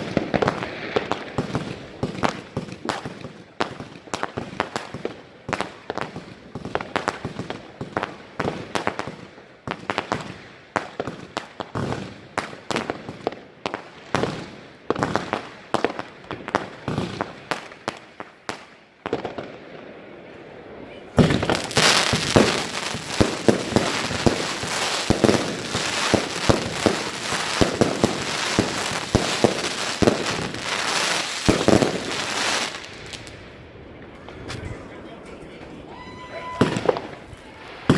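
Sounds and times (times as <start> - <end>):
fireworks banging and crackling: 0.0 - 37.9.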